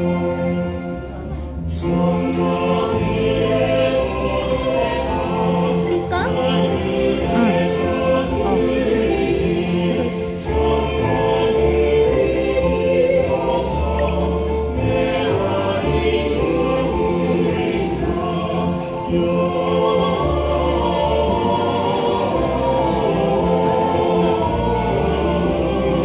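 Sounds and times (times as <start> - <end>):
choir singing: 0.0 - 26.0
low bass notes: 0.9 - 21.9.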